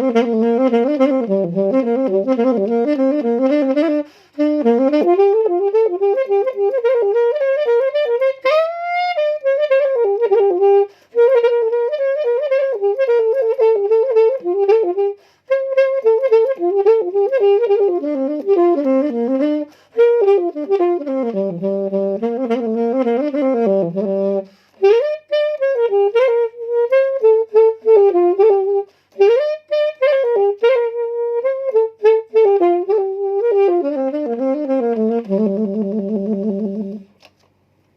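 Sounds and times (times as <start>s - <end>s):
saxophone riff: 0.0s - 37.2s.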